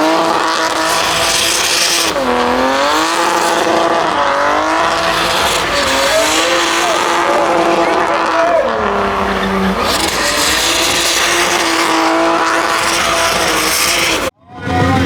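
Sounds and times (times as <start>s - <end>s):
car engine revving high: 0.0s - 15.0s
tyres squealing and skidding: 0.0s - 15.0s.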